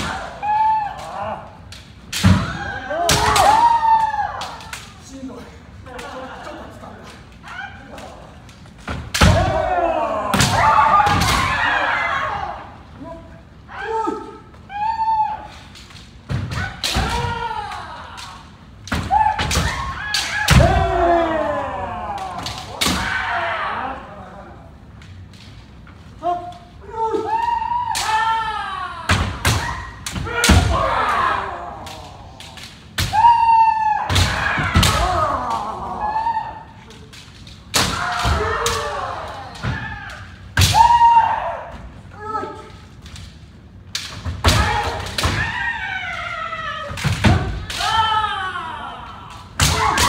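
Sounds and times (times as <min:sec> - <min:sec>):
high kiai shout: 0:00.0 - 0:05.5, 0:07.4 - 0:08.5, 0:09.2 - 0:15.8, 0:16.4 - 0:24.8, 0:26.2 - 0:37.1, 0:37.7 - 0:42.9, 0:44.4 - 0:50.0.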